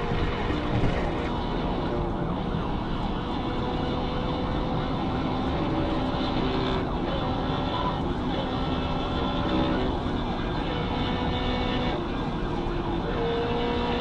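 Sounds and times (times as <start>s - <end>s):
police siren wailing: 0.0s - 14.0s
vehicle engine and road noise: 0.0s - 14.0s.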